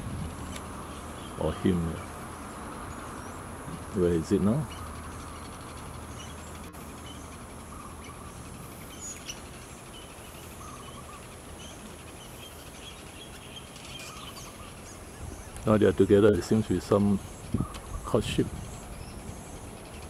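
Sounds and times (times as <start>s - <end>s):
outdoor background hum: 0.0s - 20.0s.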